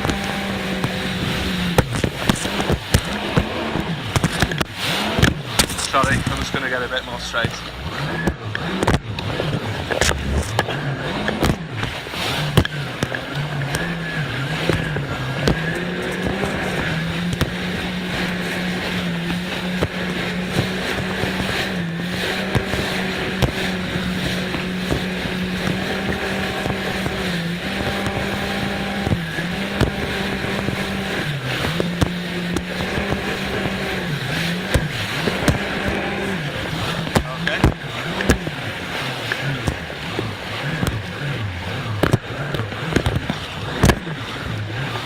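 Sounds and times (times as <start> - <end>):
jet ski engine running: 0.0 - 45.0.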